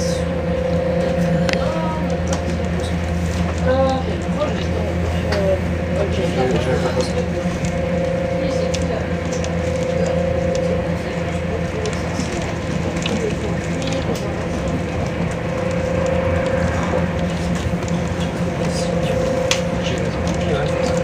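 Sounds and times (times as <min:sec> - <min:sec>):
constant hum: 0:00.0 - 0:21.0
mid-pitched whine: 0:00.0 - 0:21.0
train rumbling: 0:00.0 - 0:21.0.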